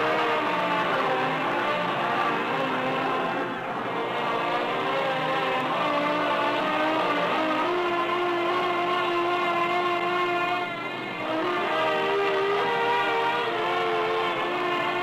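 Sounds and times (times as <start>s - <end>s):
film score music held notes: 0.0s - 15.0s.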